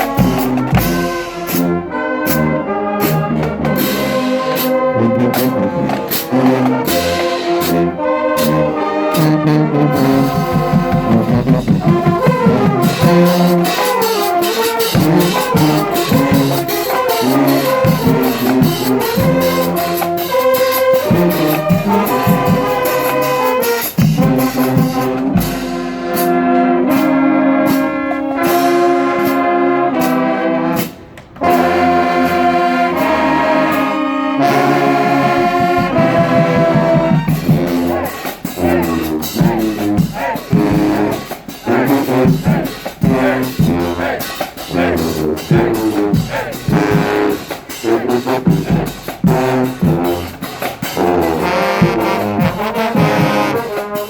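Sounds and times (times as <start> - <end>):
sharp percussion hits: 0.0 - 9.4, 10.0 - 26.5, 35.3 - 53.5
marching band brass playing: 0.0 - 54.0.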